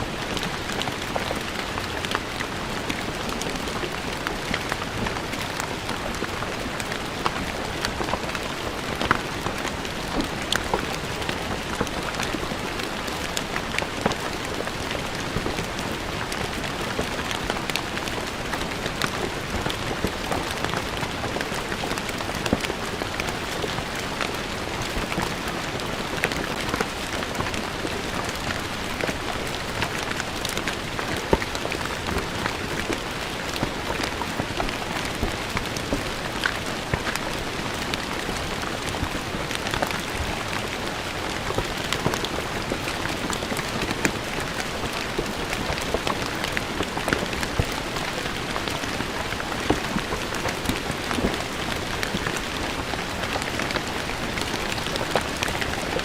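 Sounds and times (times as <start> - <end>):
rain falling on stone floor: 0.0 - 56.0.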